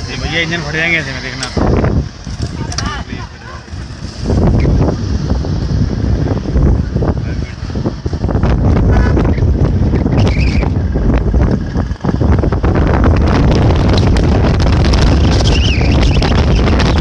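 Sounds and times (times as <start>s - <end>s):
engine and road rumble: 0.0s - 17.0s
wind buffeting microphone: 0.0s - 17.0s.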